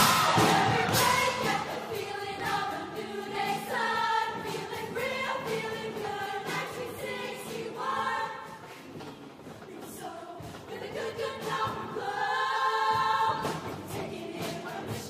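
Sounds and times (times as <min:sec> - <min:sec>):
choir singing in harmony: 0:00.0 - 0:09.1, 0:09.7 - 0:15.0.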